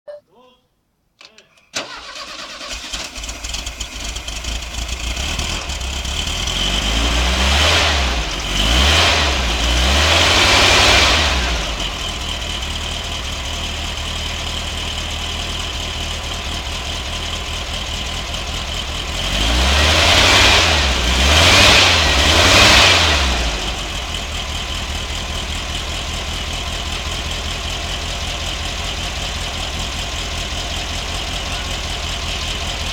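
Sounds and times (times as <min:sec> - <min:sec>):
car engine idling and revving: 0:01.9 - 0:32.9.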